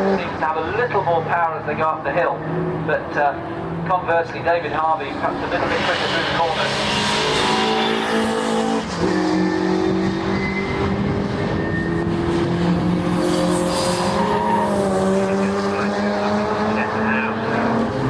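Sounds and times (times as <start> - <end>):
racing car engines at full throttle: 0.0 - 18.0.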